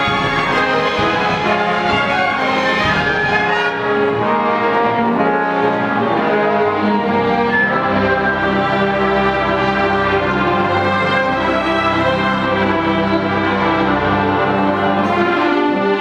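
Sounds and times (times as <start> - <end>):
orchestra strings sustained chords: 0.0 - 16.0.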